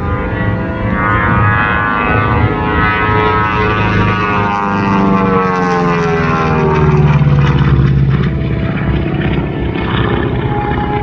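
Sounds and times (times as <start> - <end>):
aircraft propeller engines drone: 0.0 - 11.0.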